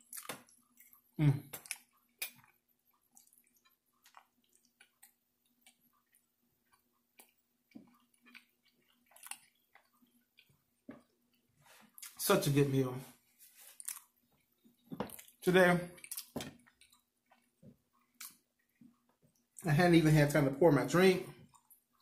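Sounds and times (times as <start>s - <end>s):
wet chewing: 0.0s - 12.2s, 13.5s - 19.6s.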